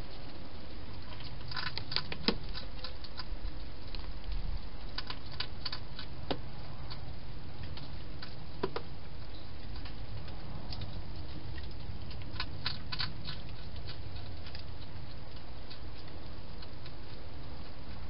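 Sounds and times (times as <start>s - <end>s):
hedgehog feeding clicks: 0.0s - 18.0s
low background noise: 0.0s - 18.0s.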